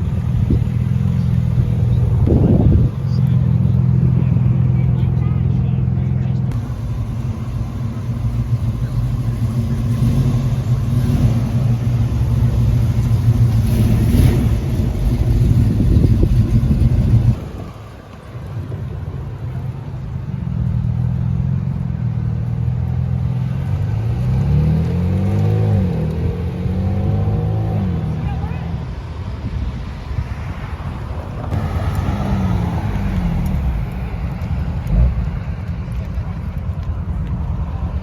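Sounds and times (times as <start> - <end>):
car engine revving: 0.0 - 18.0, 20.6 - 29.0, 30.4 - 36.4
low car engine rumble: 0.0 - 38.0.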